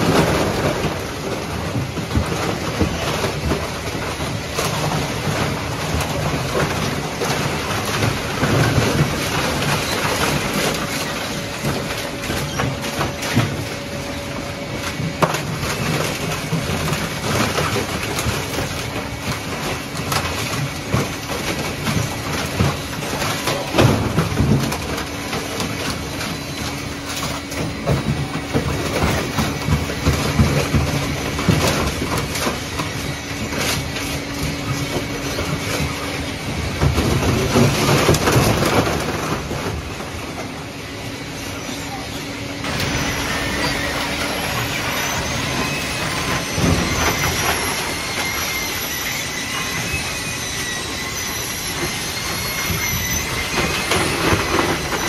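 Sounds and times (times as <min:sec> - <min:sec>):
machine hum: 0:00.0 - 0:55.0
shredder cracking and crunching: 0:00.0 - 0:55.0.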